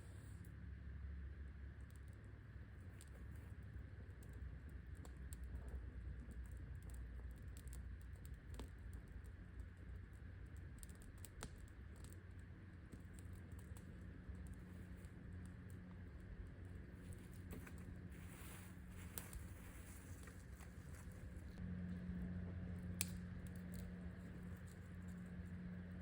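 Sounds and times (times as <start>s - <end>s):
campfire crackling and popping: 1.9s - 21.6s, 22.8s - 26.0s.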